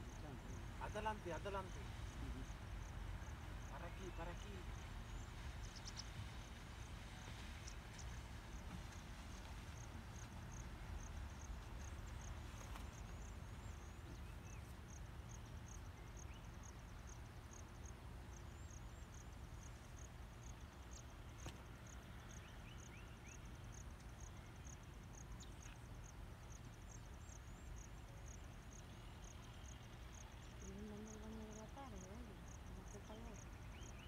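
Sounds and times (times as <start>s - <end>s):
insect chirping: 0.0s - 34.0s.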